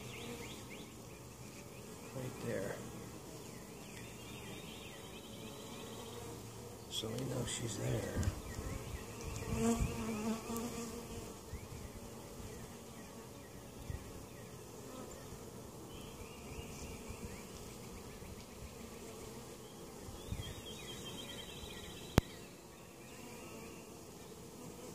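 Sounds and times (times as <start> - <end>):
honey bees buzzing: 0.0 - 24.9.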